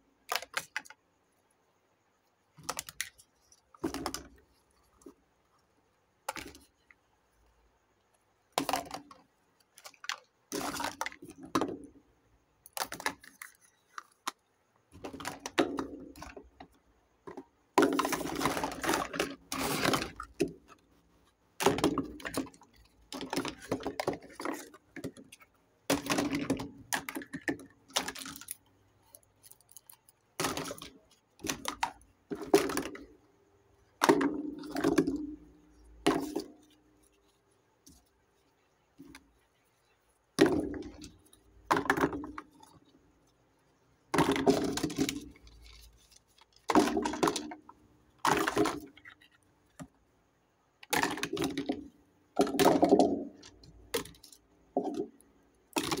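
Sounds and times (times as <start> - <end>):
plastic toys clattering: 0.3 - 1.0, 2.5 - 5.2, 6.3 - 6.9, 8.5 - 12.0, 12.6 - 21.0, 21.6 - 50.0, 50.8 - 56.0.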